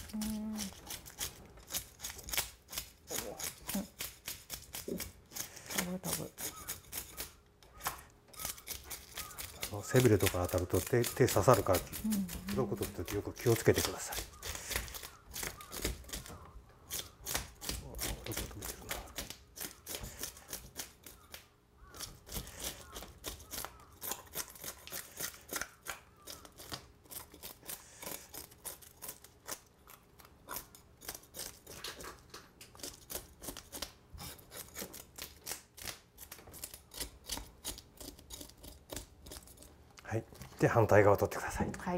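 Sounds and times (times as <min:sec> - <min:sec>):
knife scraping fish scales: 0:00.0 - 0:39.8.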